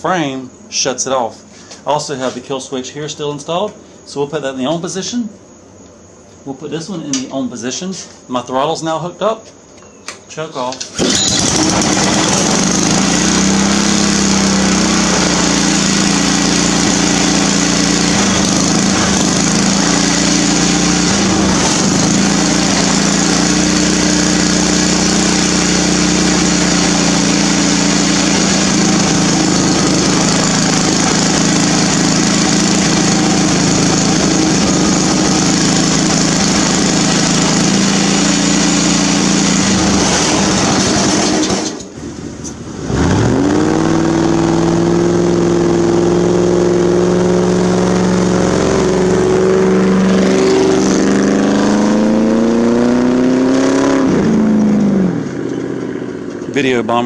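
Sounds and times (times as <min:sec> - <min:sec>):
small gas engine running steadily: 0:11.0 - 0:57.0.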